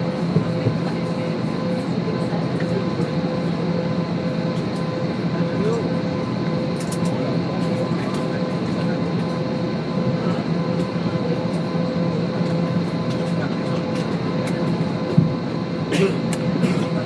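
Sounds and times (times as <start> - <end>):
airplane cabin rumble and hum: 0.0 - 17.0.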